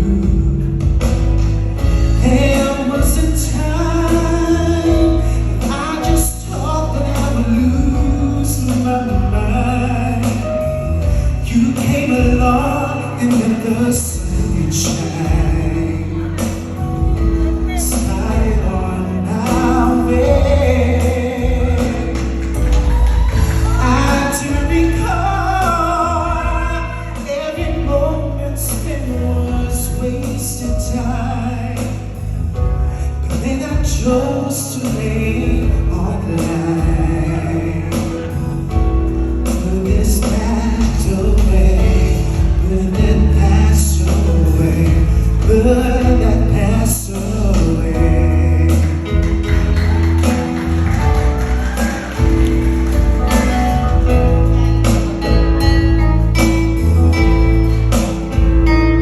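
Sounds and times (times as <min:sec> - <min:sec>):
love ballad with vocalist: 0:00.0 - 0:59.0.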